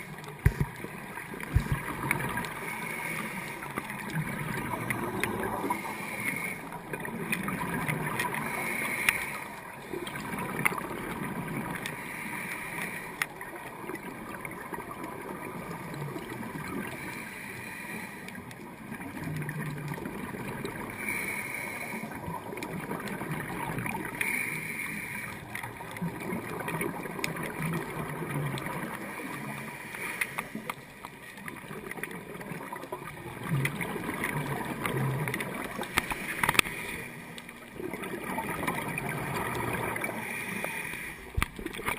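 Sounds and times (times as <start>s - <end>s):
exhaled bubbles gurgling underwater: 0.0s - 41.9s.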